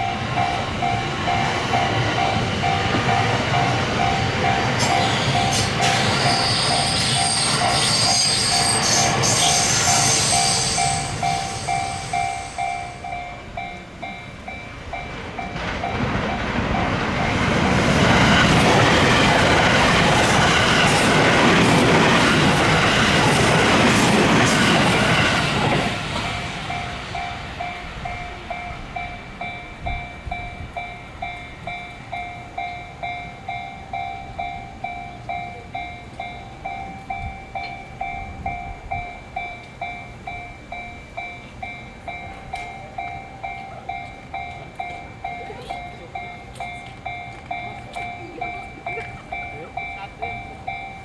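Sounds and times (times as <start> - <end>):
crossing warning bell dinging: 0.0 - 51.0
train passing: 0.0 - 51.0.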